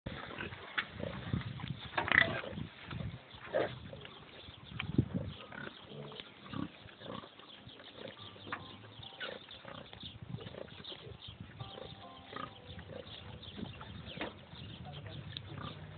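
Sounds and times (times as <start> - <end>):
pigs grunting: 2.0 - 14.2, 15.0 - 15.9.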